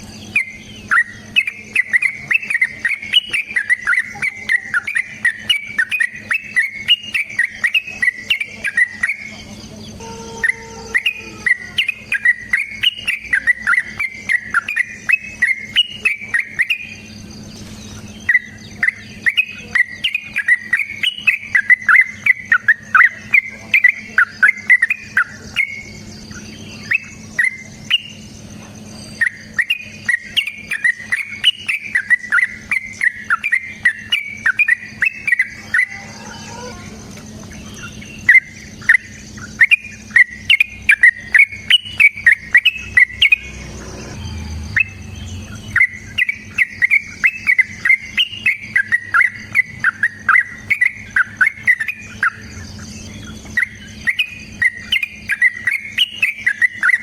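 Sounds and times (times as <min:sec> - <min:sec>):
bird chirping rapidly: 0:00.0 - 0:57.0
faint insect-like buzz: 0:00.0 - 0:57.0
faint low hum: 0:00.0 - 0:57.0.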